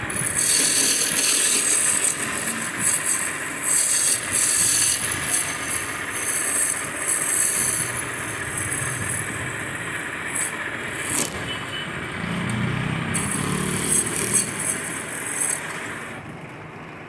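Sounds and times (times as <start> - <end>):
woodworking power tool running: 0.0 - 16.3.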